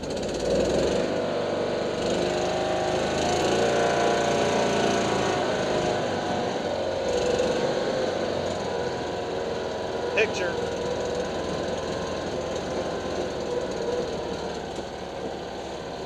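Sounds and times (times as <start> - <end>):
buggy engine running: 0.0 - 16.0.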